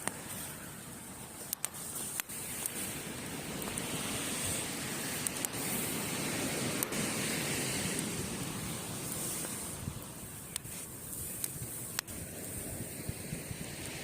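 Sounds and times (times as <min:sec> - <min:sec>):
campfire crackling pops: 0:00.0 - 0:14.0
ocean surf on a beach: 0:00.0 - 0:14.0.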